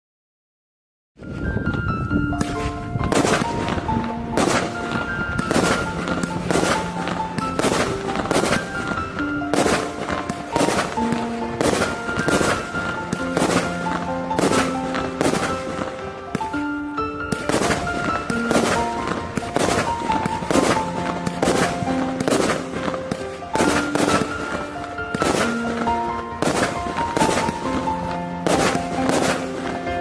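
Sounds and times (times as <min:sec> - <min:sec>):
background music: 0:01.2 - 0:30.0
fireworks bangs: 0:01.3 - 0:30.0.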